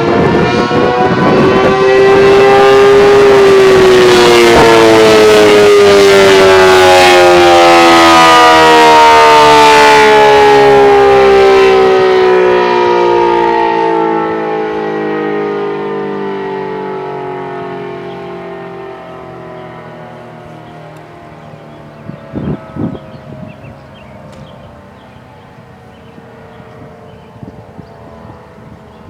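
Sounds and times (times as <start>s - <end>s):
warning siren wailing: 0.0s - 29.0s.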